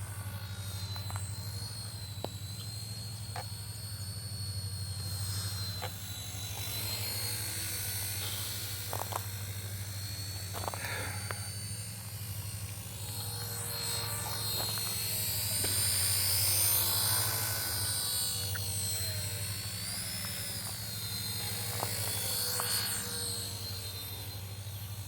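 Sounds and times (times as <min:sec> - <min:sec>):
rc helicopter motor whine: 0:00.0 - 0:25.0
rotor hum: 0:00.0 - 0:25.0.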